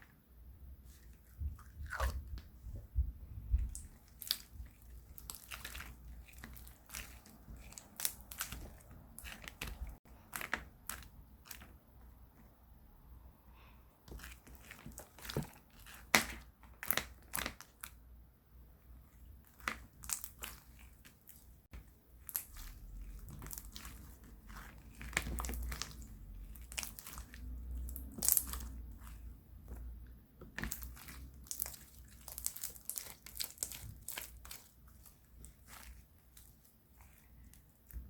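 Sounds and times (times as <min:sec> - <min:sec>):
crinkling and crunching: 0:03.5 - 0:11.8, 0:14.1 - 0:18.0, 0:19.4 - 0:38.0.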